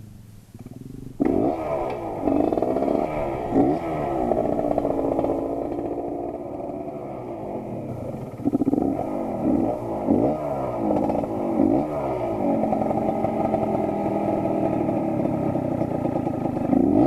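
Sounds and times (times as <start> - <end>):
two-stroke motorcycle engine revving: 0.5 - 17.0.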